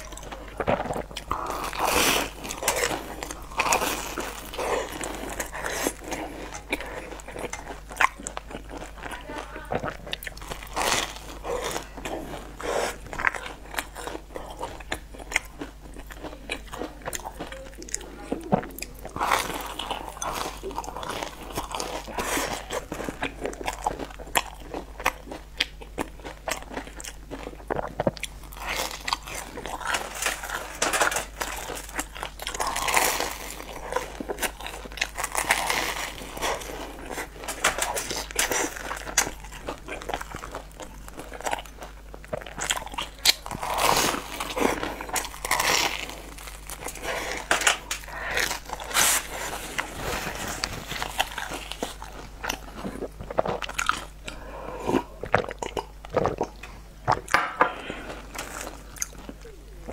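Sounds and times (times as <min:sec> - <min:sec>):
crisp chewing crunches: 0:00.0 - 0:59.9.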